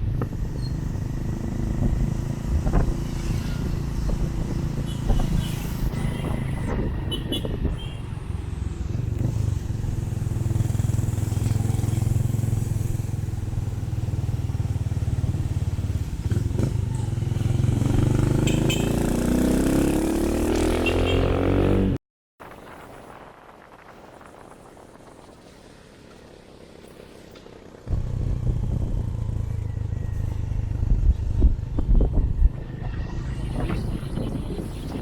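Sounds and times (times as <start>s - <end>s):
motorcycle engine accelerating: 0.0s - 7.1s, 8.6s - 22.0s, 26.2s - 35.0s.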